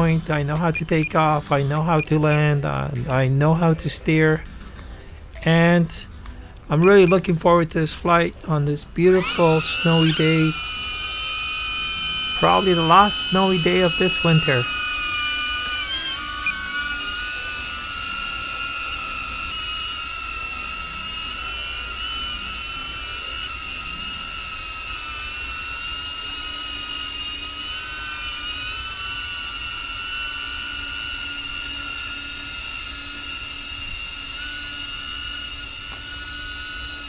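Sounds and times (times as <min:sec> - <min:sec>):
drone propellers whining: 0:00.0 - 0:37.0.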